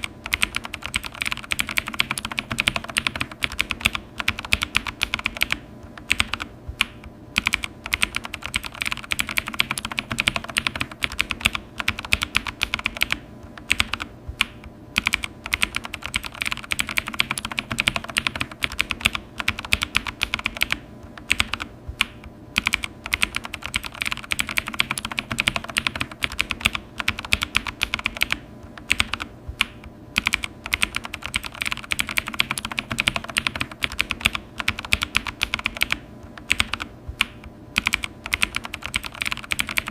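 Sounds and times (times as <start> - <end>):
typing on a keyboard: 0.0 - 39.9.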